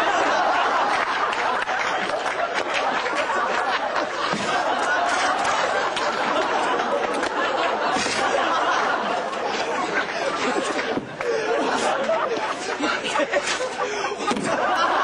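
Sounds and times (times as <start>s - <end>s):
crowd laughing and chattering: 0.0s - 15.0s.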